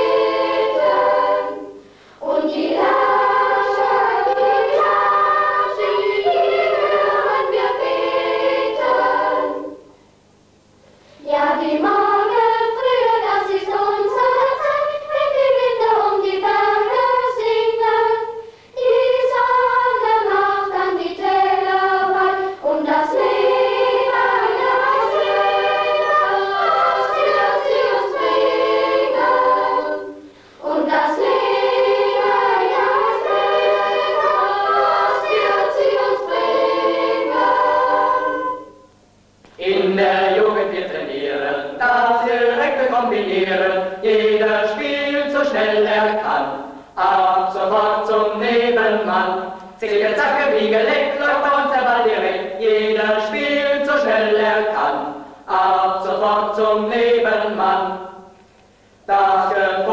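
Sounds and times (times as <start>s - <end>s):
choir singing: 0.0s - 10.0s, 11.2s - 38.9s, 39.6s - 58.3s, 59.1s - 59.9s
faint steady low hum: 0.0s - 59.9s.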